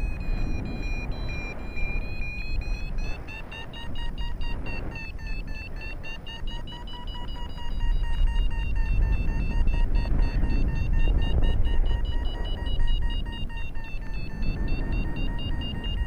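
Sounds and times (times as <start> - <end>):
variometer beeping: 0.0 - 16.0
wind rumbling on microphone: 0.0 - 16.0.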